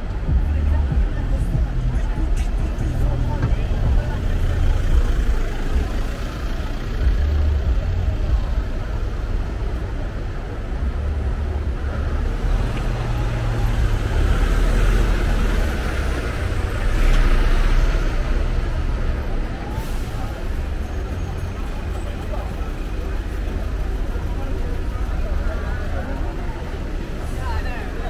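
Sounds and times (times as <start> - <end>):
road traffic rumbling: 0.0 - 28.0.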